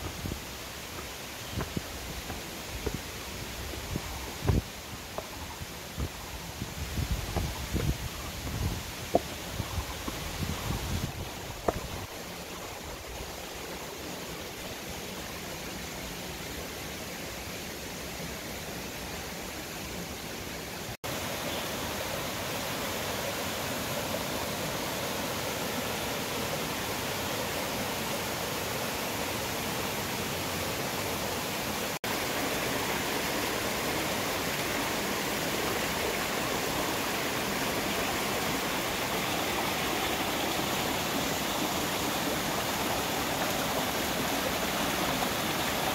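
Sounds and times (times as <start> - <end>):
water rushing over rocks: 0.0 - 16.4, 21.0 - 45.9.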